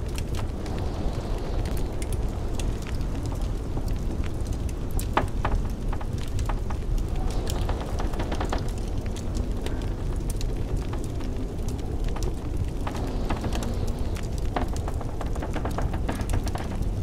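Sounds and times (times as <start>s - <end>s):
blizzard wind rushing: 0.0s - 17.0s
wood fire crackling and popping: 0.0s - 17.0s.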